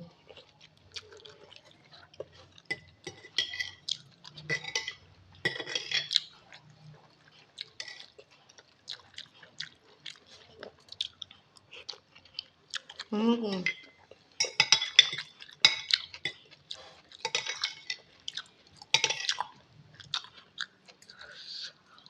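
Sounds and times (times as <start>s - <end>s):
wet chewing and slurping: 0.2s - 4.9s, 5.8s - 13.1s, 15.2s - 22.0s.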